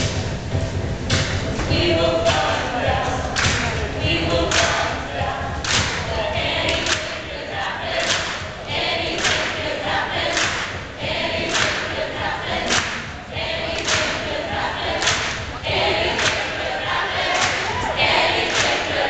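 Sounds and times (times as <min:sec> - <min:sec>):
music with a strong beat: 0:00.0 - 0:19.0
group singing together: 0:01.6 - 0:19.0.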